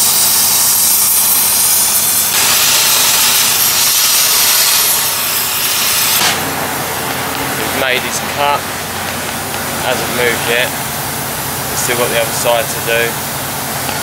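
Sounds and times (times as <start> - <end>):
gas cutting torch hissing: 0.0 - 14.0.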